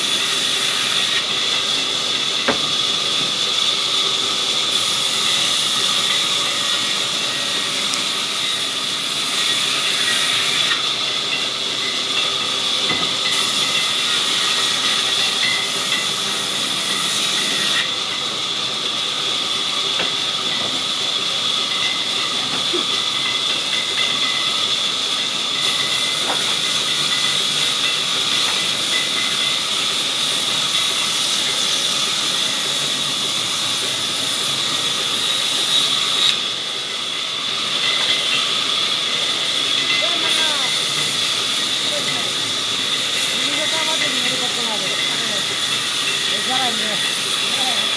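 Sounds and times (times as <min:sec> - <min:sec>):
sawmill saw whine and hiss: 0:00.0 - 0:47.9.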